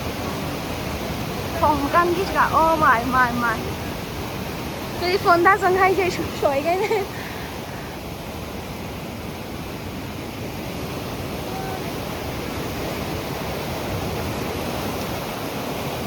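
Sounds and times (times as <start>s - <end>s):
rushing water or wind: 0.0s - 16.0s.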